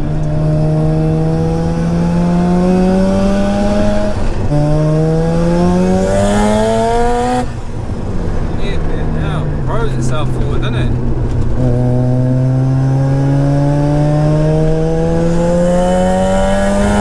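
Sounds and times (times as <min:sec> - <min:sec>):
rotary engine accelerating: 0:00.0 - 0:17.0.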